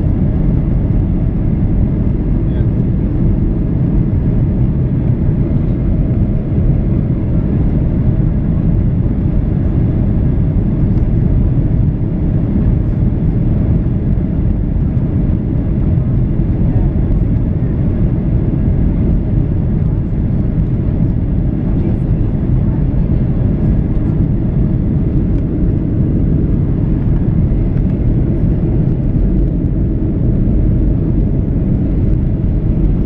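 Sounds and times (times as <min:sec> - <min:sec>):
jet engines rumbling in cabin: 0:00.0 - 0:33.0.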